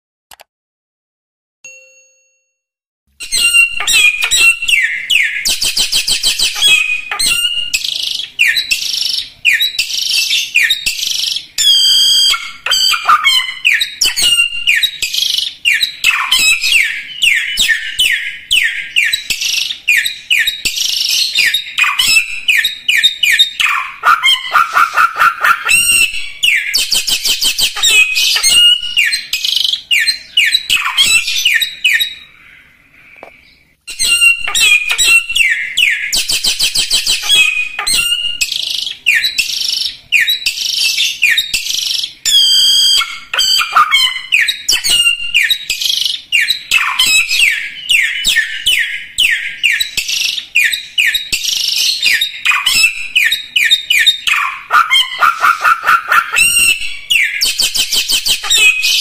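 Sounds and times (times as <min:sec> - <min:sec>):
songbird singing trills: 0:03.2 - 0:59.0.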